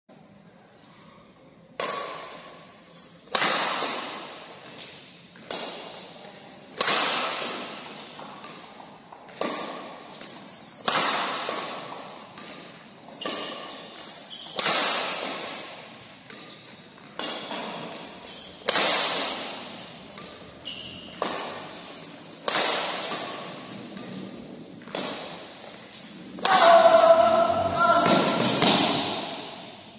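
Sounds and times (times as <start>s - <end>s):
racket hitting shuttlecock: 1.8s - 29.9s.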